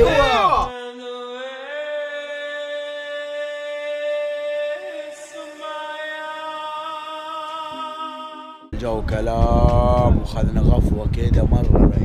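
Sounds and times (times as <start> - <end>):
humming vocal music: 0.0 - 10.7.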